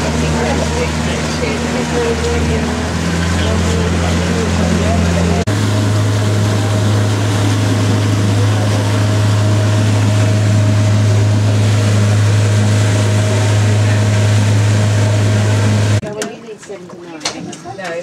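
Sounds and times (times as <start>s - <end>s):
water rushing: 0.0s - 16.0s
outboard motor running: 0.0s - 17.5s.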